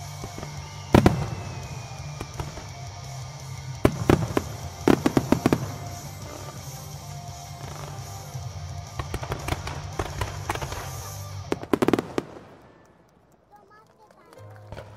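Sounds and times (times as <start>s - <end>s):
fireworks bursting: 0.0s - 14.9s
music playing: 0.0s - 14.9s.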